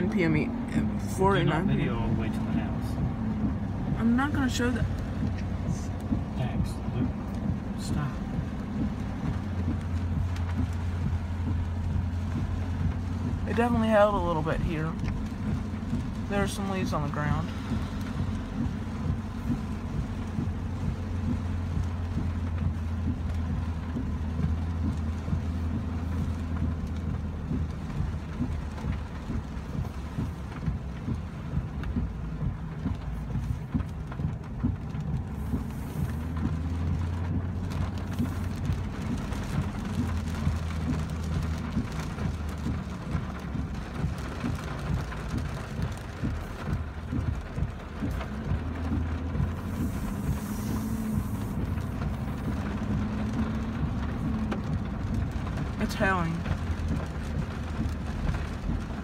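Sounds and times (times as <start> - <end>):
heavy rain on vehicle roof: 0.0 - 59.0
vehicle driving on wet road: 0.0 - 59.0.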